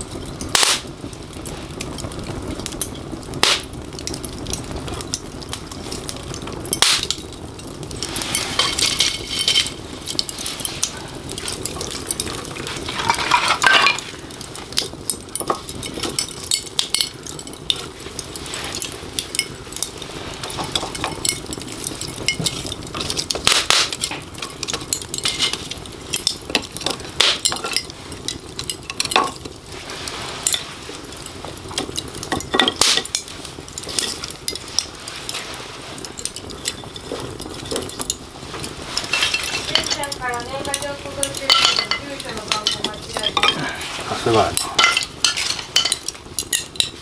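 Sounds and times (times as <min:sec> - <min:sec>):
fire hiss: 0:00.0 - 0:47.0
wood fire crackling and popping: 0:00.0 - 0:47.0.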